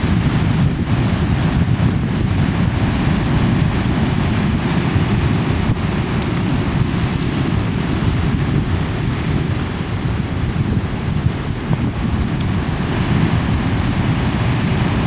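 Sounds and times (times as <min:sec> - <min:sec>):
ocean waves breaking: 0:00.0 - 0:15.0
wind buffeting microphone: 0:00.0 - 0:15.0.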